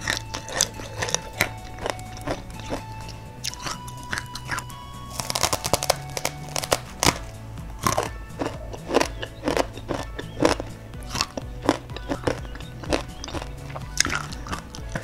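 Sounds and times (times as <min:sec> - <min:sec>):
crunchy snack chewing: 0:00.0 - 0:15.0
soft background music: 0:00.0 - 0:15.0.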